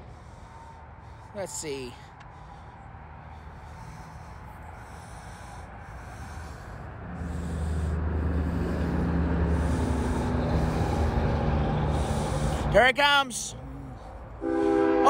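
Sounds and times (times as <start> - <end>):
diesel locomotive rumbling: 0.0 - 15.0.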